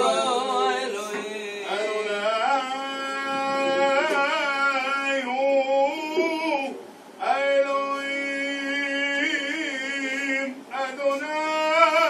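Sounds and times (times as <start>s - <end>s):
man chanting prayers: 0.0s - 12.0s.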